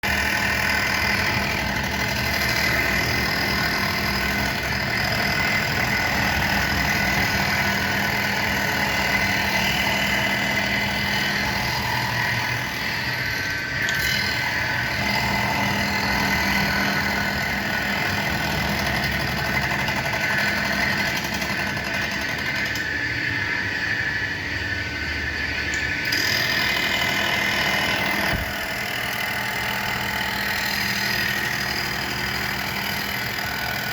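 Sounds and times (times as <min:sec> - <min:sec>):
blade grinding machine whine: 0:00.0 - 0:33.9.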